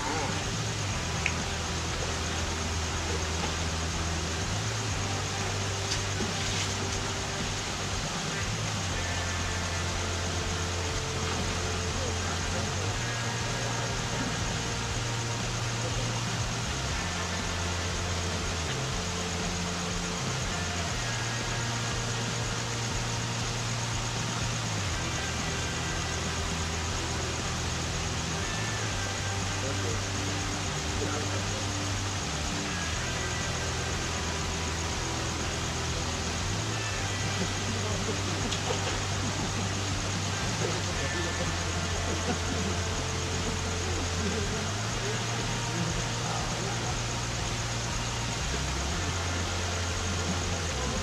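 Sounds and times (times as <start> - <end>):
even hiss: 0.0 - 51.0
low mechanical hum: 0.0 - 51.0.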